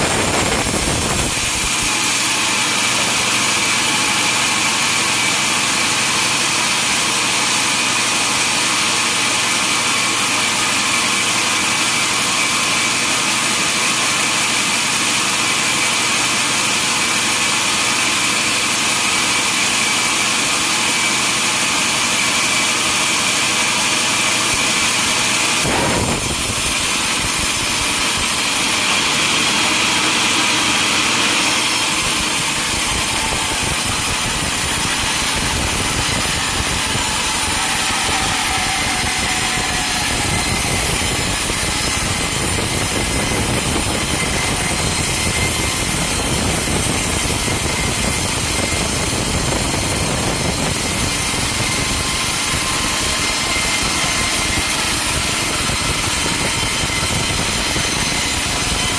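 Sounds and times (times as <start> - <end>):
sawmill cutting log with whine: 0.0 - 58.9.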